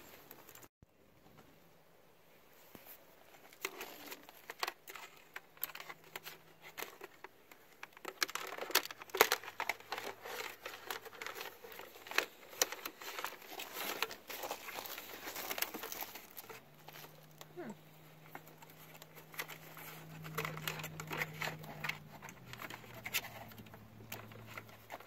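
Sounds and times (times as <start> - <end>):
electrical wire rustling and scraping: 2.5 - 25.0.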